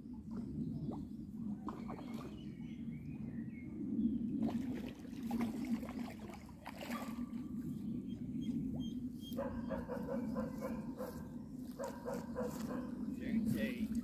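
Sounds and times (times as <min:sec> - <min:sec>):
wind: 0:00.0 - 0:14.0
lapping water: 0:00.2 - 0:02.6, 0:04.4 - 0:07.8, 0:08.4 - 0:14.0.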